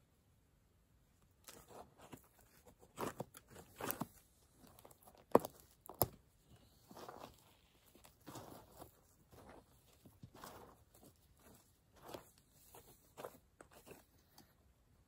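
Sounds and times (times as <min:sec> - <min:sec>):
hand tool scraping dry dirt: 0:01.5 - 0:14.3.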